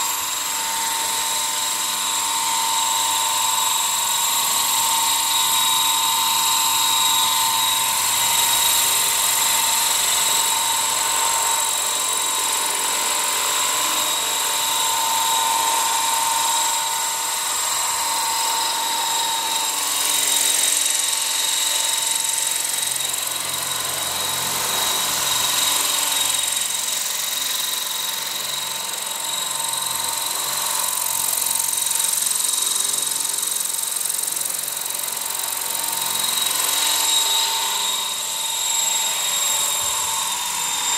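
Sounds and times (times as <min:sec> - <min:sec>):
rc helicopter high whine: 0:00.0 - 0:40.9.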